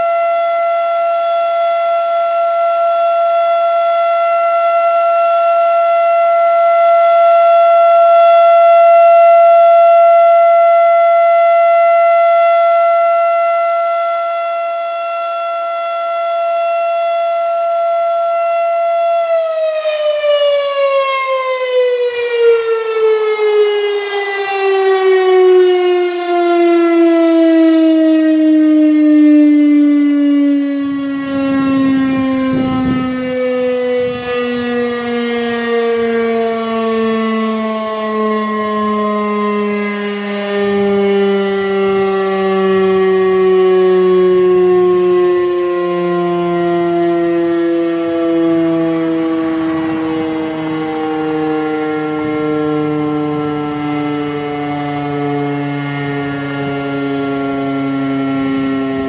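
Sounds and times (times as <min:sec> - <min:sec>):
warning siren wailing: 0:00.0 - 0:59.0.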